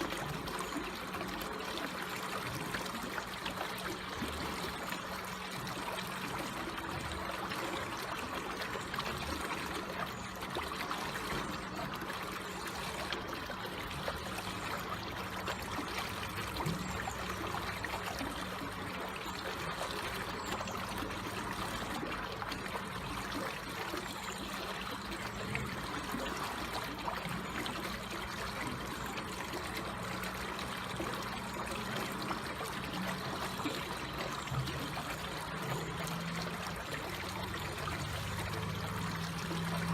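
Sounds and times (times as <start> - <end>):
water trickling gently: 0.0 - 39.9.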